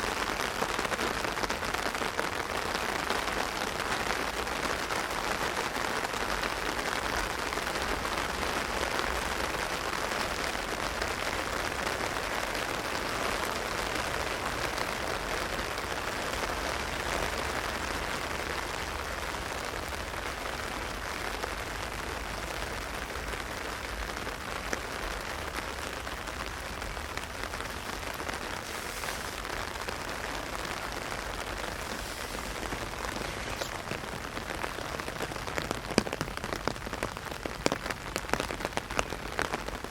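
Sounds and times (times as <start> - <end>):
heavy rain on umbrella: 0.0 - 39.9.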